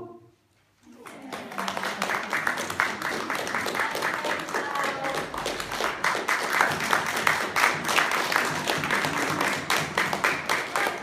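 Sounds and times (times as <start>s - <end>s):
group of people clapping: 0.8s - 11.0s.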